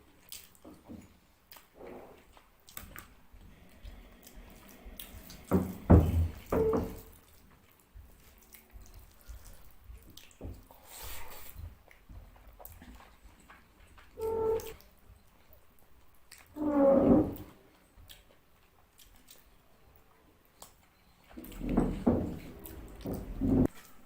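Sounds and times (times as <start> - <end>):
wet chewing and mixing: 0.0 - 16.7, 17.3 - 24.0.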